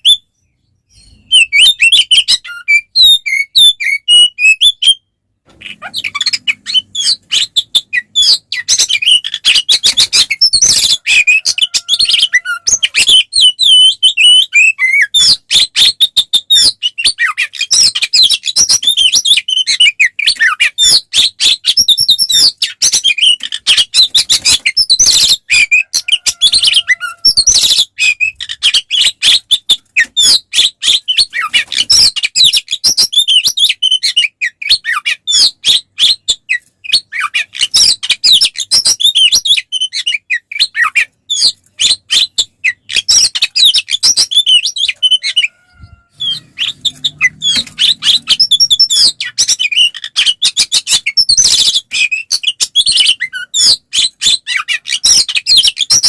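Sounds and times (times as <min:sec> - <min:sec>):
songbird whistles and trills: 0:00.0 - 0:56.0.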